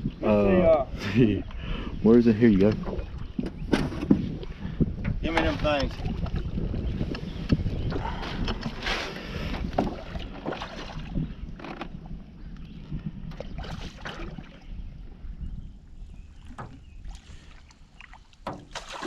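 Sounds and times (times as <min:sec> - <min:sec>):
wind rumble on microphone: 0:00.0 - 0:18.8.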